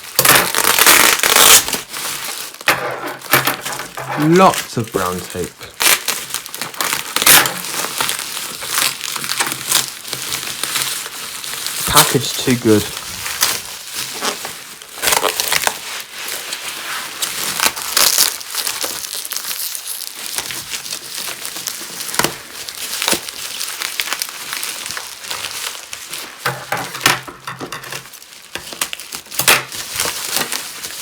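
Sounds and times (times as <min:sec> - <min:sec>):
plastic and tape crinkling: 0:00.0 - 0:31.0.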